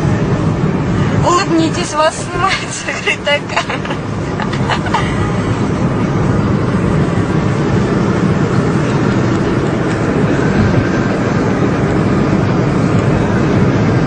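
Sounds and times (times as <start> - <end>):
wind noise: 0.0 - 14.0.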